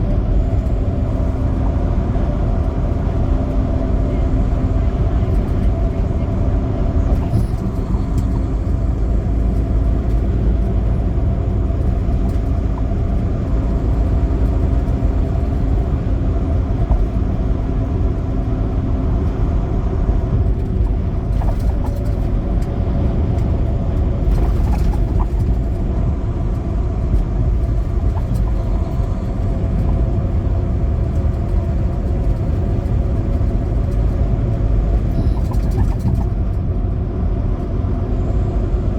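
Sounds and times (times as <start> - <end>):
diesel truck engine droning: 0.0 - 38.9
road noise rumble: 0.0 - 38.9.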